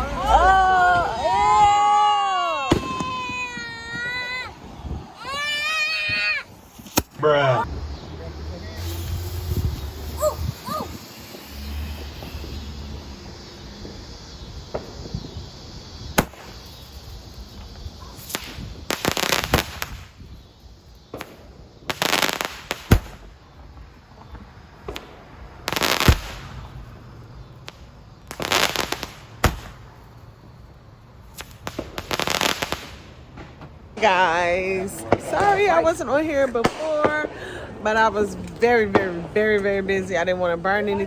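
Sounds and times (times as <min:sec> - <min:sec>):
fireworks bangs: 0:00.0 - 0:41.0
fireworks crackling: 0:00.0 - 0:41.0.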